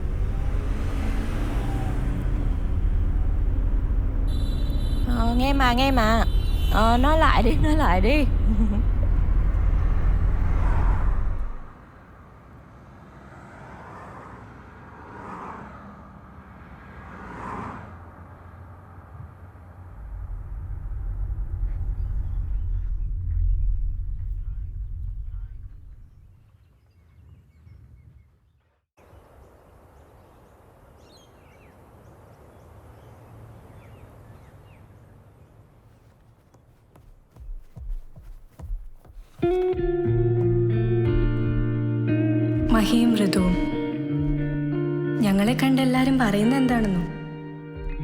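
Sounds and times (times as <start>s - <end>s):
background ambience: 0.0s - 13.2s, 19.1s - 26.6s, 29.0s - 48.0s.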